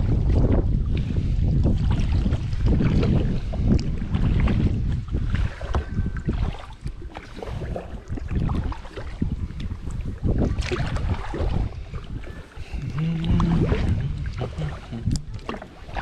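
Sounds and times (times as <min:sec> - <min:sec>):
water splashing and dripping: 0:00.0 - 0:16.0
wind buffeting microphone: 0:00.0 - 0:16.0
kayak paddle strokes: 0:00.2 - 0:16.0.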